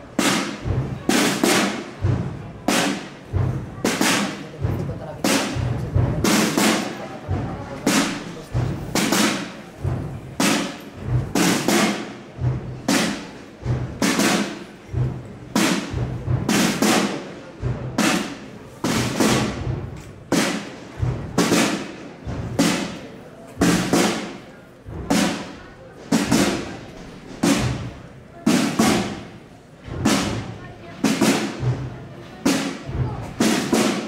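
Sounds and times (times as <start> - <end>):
drums beating march rhythm: 0.0 - 34.0.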